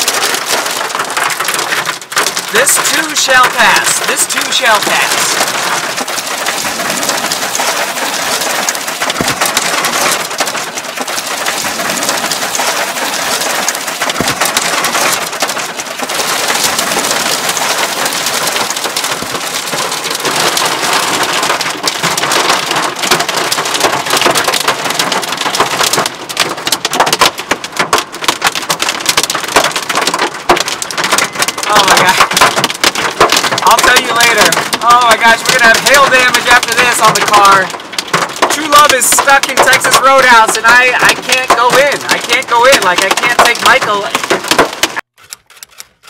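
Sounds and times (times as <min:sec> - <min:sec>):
hail and rain on car roof: 0:00.0 - 0:45.8.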